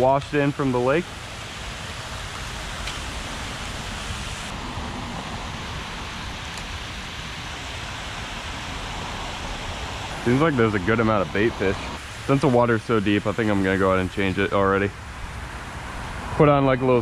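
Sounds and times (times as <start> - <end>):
water rushing over weir: 0.0 - 17.0.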